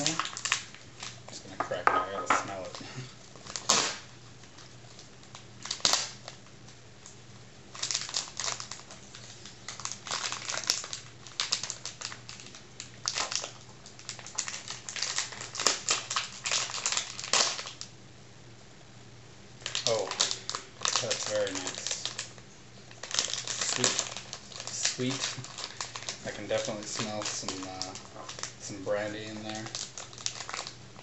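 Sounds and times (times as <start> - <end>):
plastic bag crinkling: 0.0 - 7.1, 7.7 - 17.9, 19.6 - 31.0.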